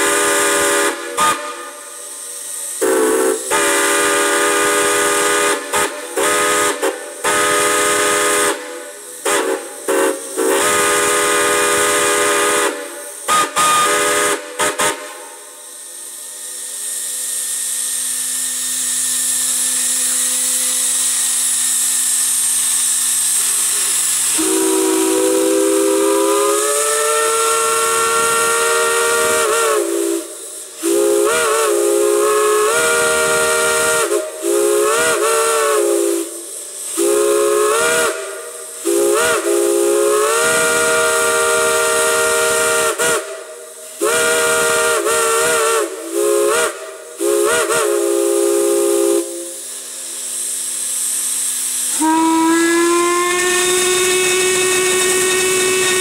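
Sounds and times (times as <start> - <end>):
steam whistle blasts: 0.0 - 22.7, 23.4 - 56.0
steam hissing: 0.0 - 56.0.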